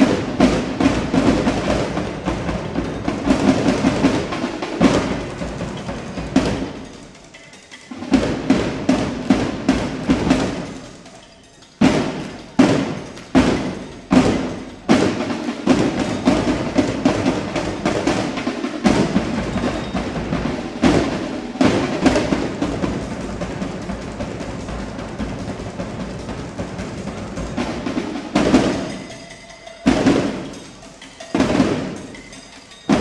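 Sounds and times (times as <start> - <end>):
marching snare and bass drums: 0.0 - 33.0.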